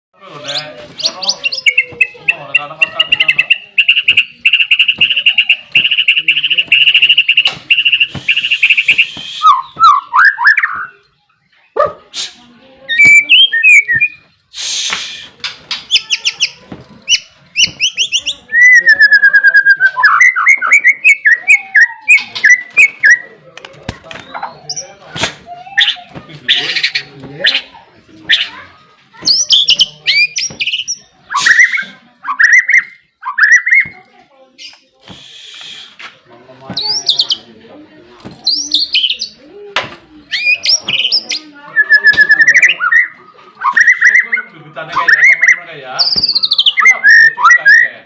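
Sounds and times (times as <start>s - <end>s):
bird singing: 0.3s - 11.9s, 12.8s - 14.4s, 15.4s - 23.4s, 24.0s - 35.9s, 36.7s - 37.5s, 38.4s - 48.0s.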